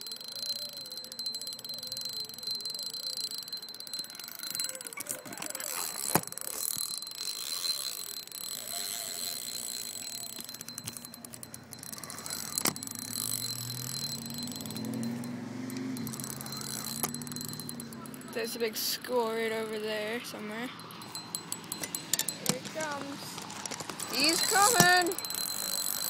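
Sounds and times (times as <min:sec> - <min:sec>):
spinning reel ticking: 0:00.0 - 0:26.0.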